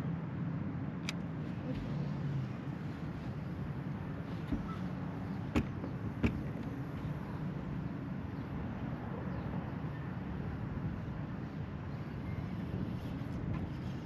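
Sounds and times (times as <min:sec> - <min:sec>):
wind and water noise: 0:00.0 - 0:14.0.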